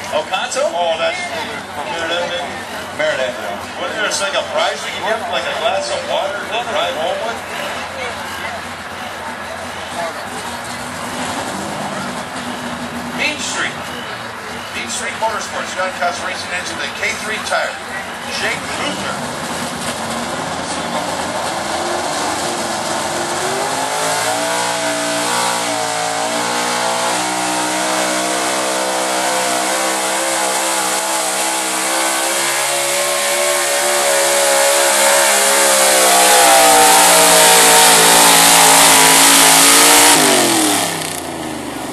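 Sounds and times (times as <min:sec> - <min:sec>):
racing engine at full throttle: 0:00.0 - 0:41.9.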